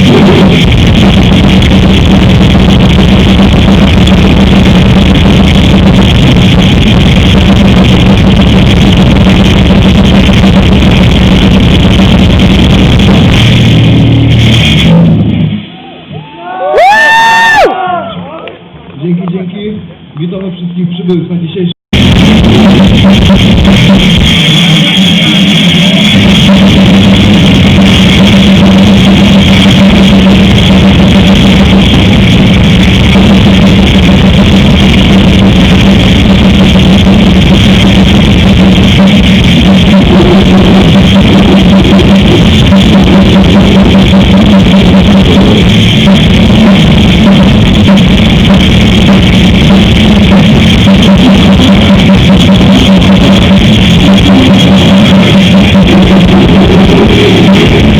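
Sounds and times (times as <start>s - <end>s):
metal band playing live: 0.0s - 15.7s, 22.0s - 57.9s
pounding drum kit: 0.0s - 15.7s, 21.9s - 57.9s
distorted electric guitars: 0.0s - 18.0s, 21.9s - 57.9s.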